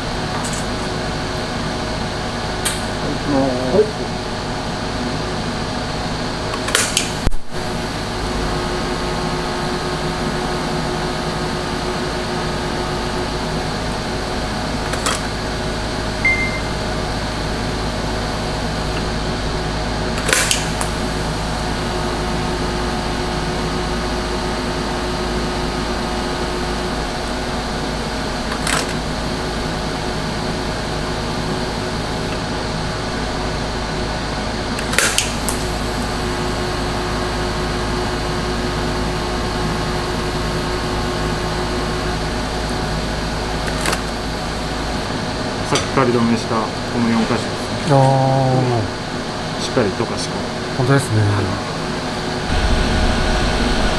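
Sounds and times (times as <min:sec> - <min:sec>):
electrical machine hum: 0:00.0 - 0:53.9.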